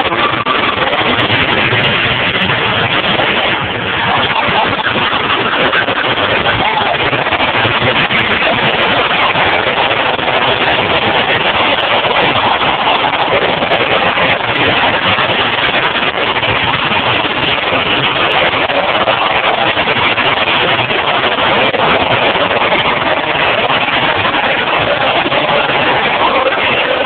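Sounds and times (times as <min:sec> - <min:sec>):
car engines running together: 0:00.0 - 0:27.0.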